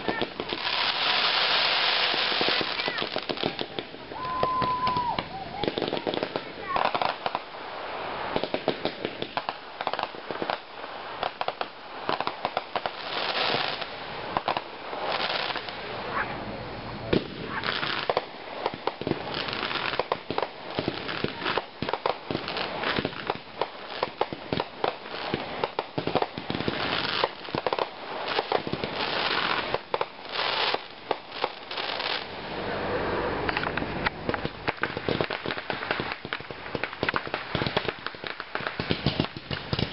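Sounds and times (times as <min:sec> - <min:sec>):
firework bangs: 0:00.0 - 0:32.6, 0:33.2 - 0:39.9
firework crackling: 0:00.0 - 0:39.9.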